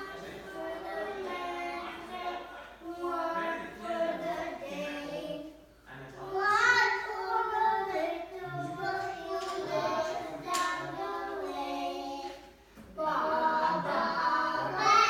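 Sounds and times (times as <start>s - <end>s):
child singing: 0.0s - 5.6s, 6.2s - 15.0s.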